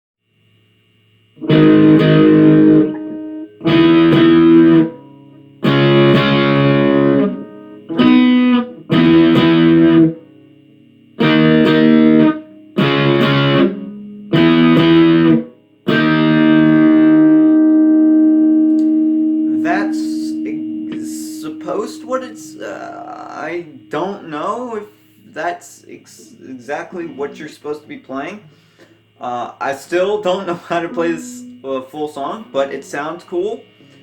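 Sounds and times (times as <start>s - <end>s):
guitar strumming chords: 1.4s - 34.0s.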